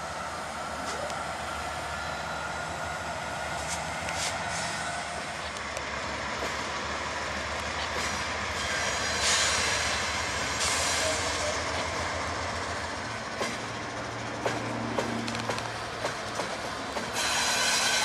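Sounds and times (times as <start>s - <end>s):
diesel locomotive engine rumble: 0.0s - 18.0s
steel wheels on rail: 0.0s - 18.0s.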